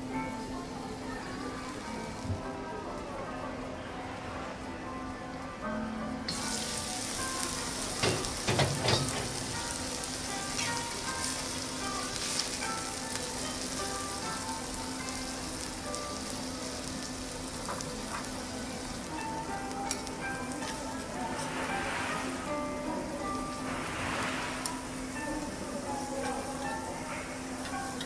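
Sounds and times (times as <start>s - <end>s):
steak sizzling on a griddle: 0.3s - 2.8s, 6.3s - 28.0s.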